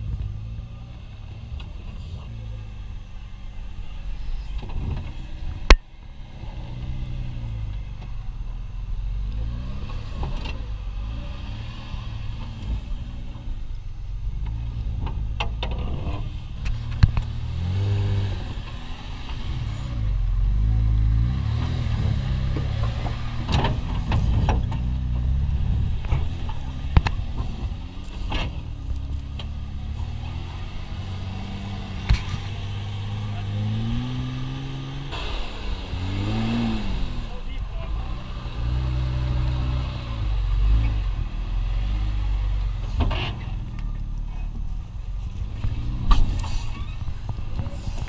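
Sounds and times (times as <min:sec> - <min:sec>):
truck engine under load: 0:00.0 - 0:48.0.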